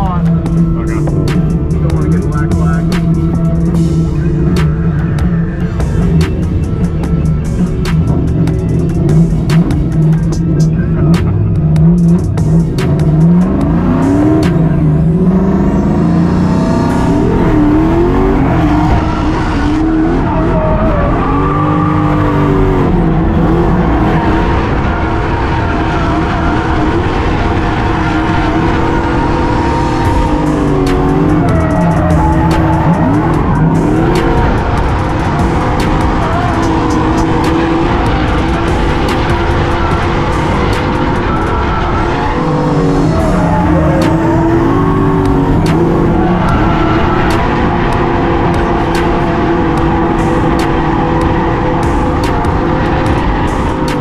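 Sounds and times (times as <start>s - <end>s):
car engine revving: 0.0s - 54.0s
tires squealing: 0.0s - 54.0s.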